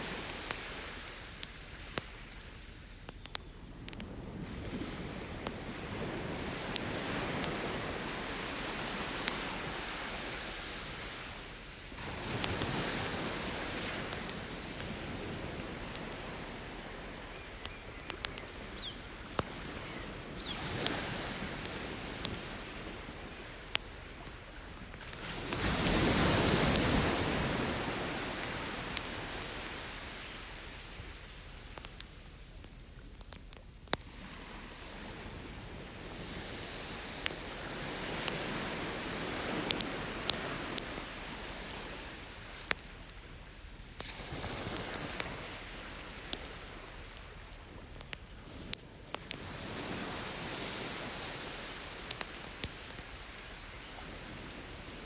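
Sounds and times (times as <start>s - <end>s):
campfire crackling: 0.0s - 55.0s
ocean waves breaking: 4.3s - 31.2s, 34.1s - 43.3s, 44.0s - 47.8s, 48.4s - 55.0s.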